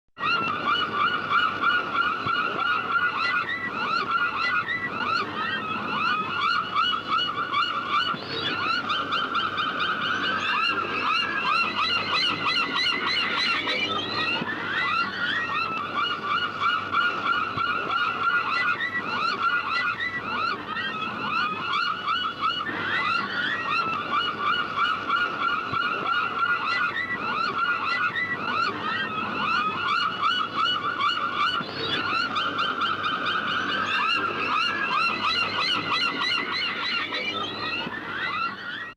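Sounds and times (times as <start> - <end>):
gulls calling: 0.2 - 38.9.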